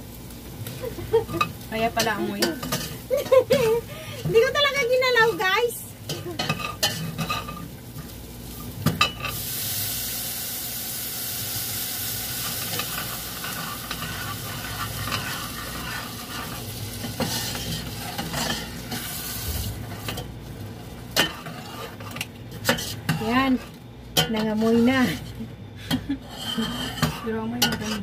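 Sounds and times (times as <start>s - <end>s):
food sizzling in pan: 0.0s - 28.0s.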